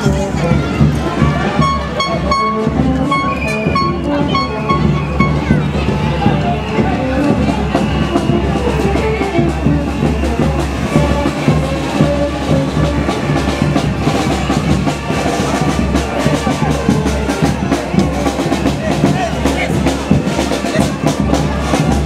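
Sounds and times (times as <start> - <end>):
music with drum beat and bass: 0.0 - 22.0.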